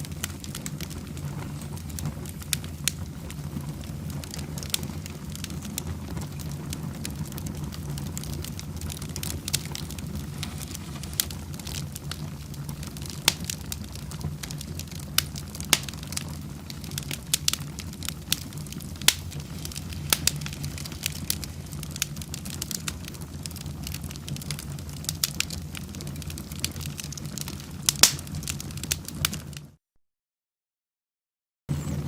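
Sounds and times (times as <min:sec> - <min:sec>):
fire flames rushing: 0:00.0 - 0:29.7
fire crackling and popping: 0:00.0 - 0:29.8.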